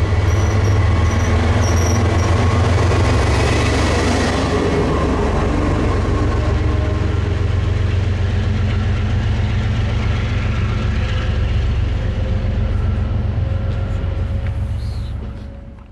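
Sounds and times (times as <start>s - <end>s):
diesel locomotive engine rumble: 0.0s - 15.9s
train rail noise: 0.0s - 15.9s.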